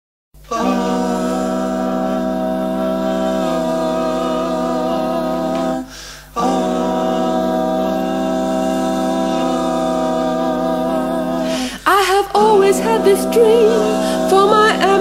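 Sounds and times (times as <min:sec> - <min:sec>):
a cappella vocal harmony: 0:00.4 - 0:15.0.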